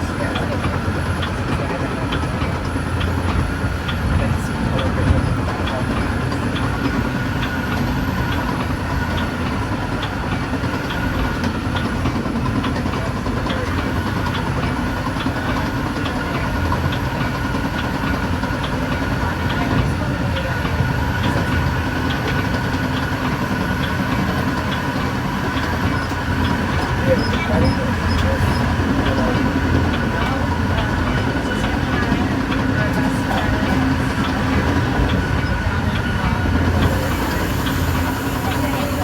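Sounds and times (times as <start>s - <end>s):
commuter train rumbling: 0.0s - 39.0s
wheels clicking on rails: 0.0s - 39.0s.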